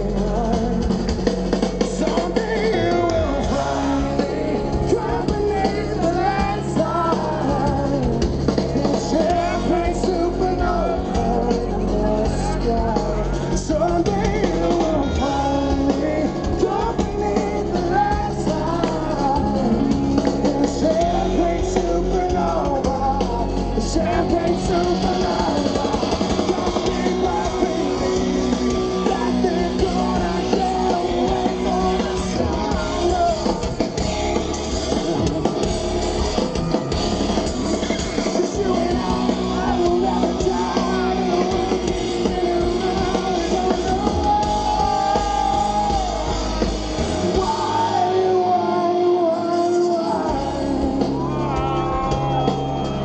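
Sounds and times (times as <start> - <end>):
man singing into a microphone: 0.0 - 34.1, 37.4 - 53.0
drums: 0.0 - 53.0
electric guitar: 0.0 - 53.0.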